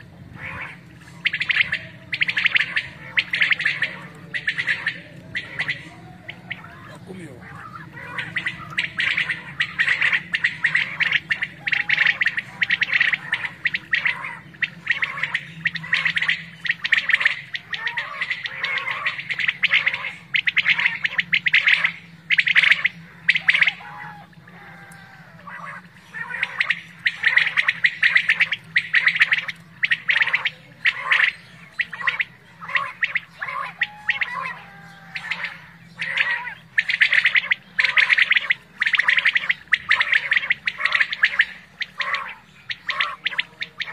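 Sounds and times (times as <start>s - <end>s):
quail calling: 0.0s - 43.9s.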